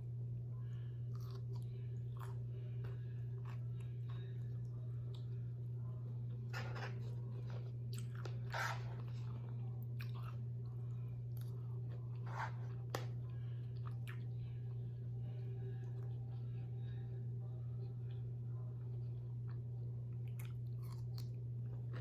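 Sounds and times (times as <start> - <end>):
low hum: 0.0 - 22.0
chewing food: 0.7 - 17.0, 18.8 - 22.0.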